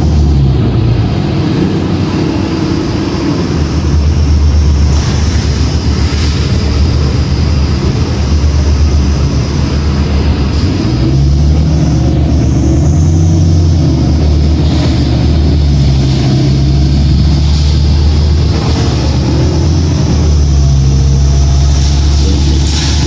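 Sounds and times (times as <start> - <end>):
bus diesel engine hum: 0.0 - 23.0
road noise: 0.0 - 23.0.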